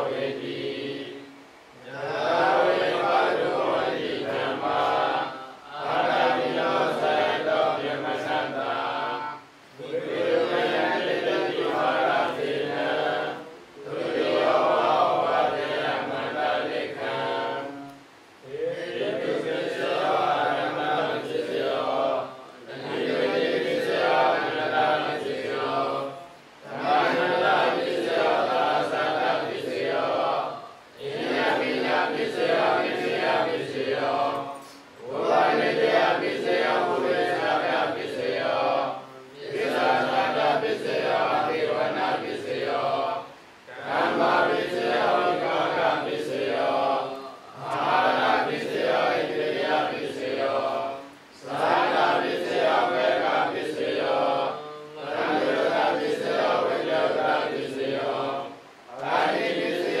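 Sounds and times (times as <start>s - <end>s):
monks chanting in unison: 0.0s - 60.0s.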